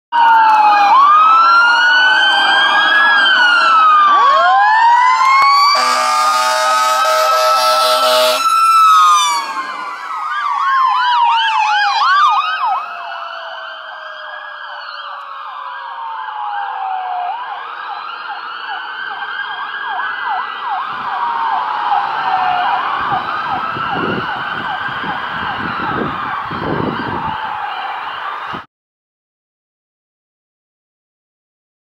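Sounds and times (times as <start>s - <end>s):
emergency sirens: 0.1s - 28.7s.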